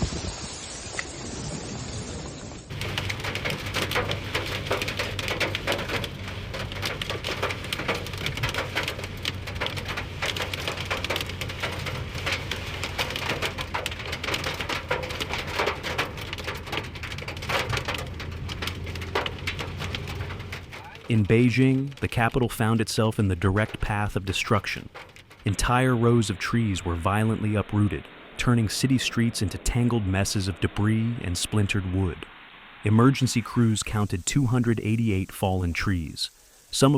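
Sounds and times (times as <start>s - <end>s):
rain pattering on hard surface: 0.0s - 36.9s.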